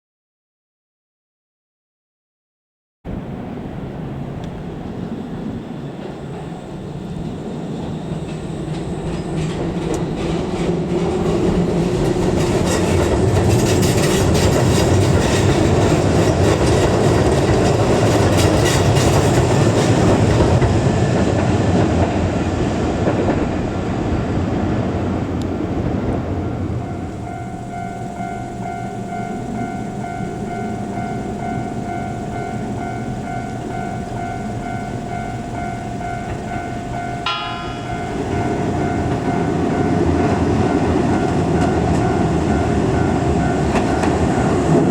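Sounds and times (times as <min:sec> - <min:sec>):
train wheels clattering over rails: 0:04.7 - 0:44.9.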